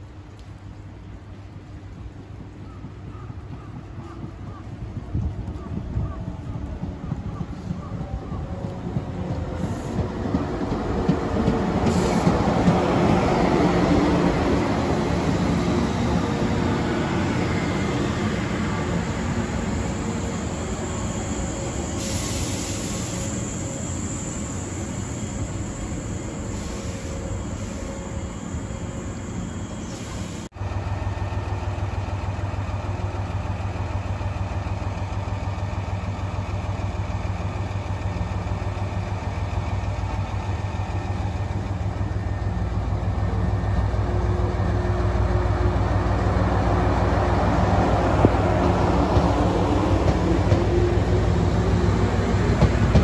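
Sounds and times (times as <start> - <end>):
diesel railcar idling: 0.0 - 53.0
electric train wheels rumbling: 0.0 - 53.0.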